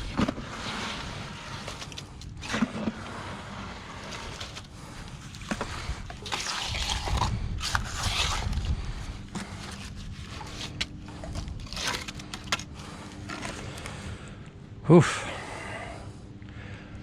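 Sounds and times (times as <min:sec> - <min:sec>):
scraping wet concrete: 0:00.0 - 0:14.0.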